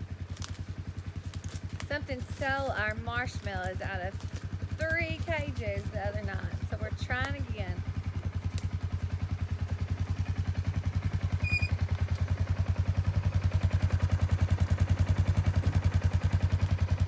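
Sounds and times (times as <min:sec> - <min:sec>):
utility vehicle engine idling: 0:00.0 - 0:17.0.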